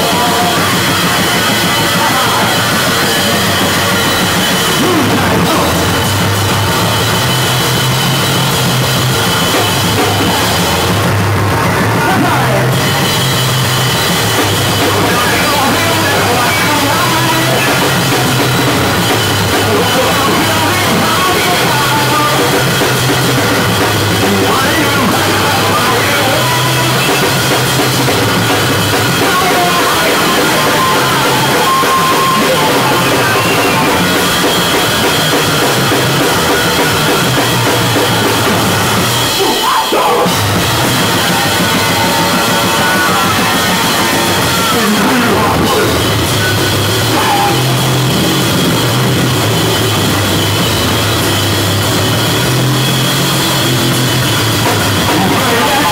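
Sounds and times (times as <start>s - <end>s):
distorted electric bass: 0.0s - 55.9s
fast drumming and cymbals: 0.0s - 55.9s.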